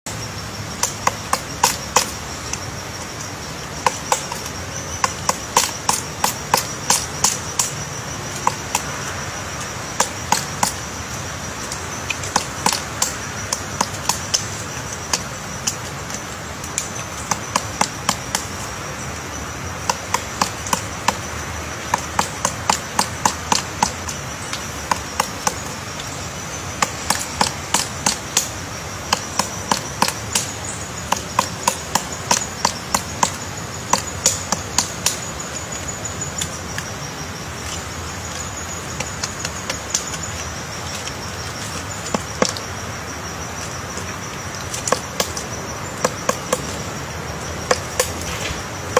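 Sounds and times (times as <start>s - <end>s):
woodpecker striking tree trunk: 0.7s - 18.8s, 19.7s - 37.0s, 37.6s - 48.9s.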